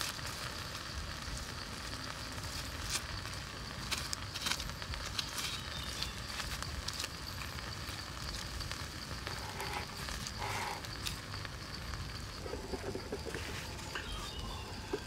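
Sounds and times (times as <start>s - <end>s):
charcoal embers crackling: 0.0s - 15.0s
faint sizzle: 0.0s - 15.0s
outdoor background noise: 0.0s - 15.0s.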